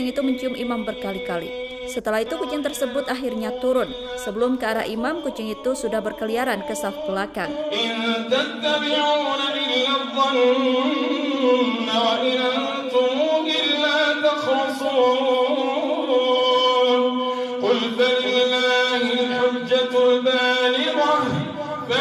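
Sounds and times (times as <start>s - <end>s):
man chanting prayer through microphone: 0.0s - 22.0s.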